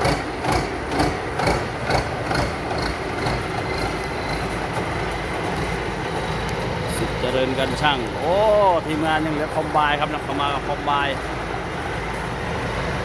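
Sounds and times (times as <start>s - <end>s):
combine harvester engine humming: 0.0s - 13.0s
rhythmic metallic clatter: 0.0s - 13.0s.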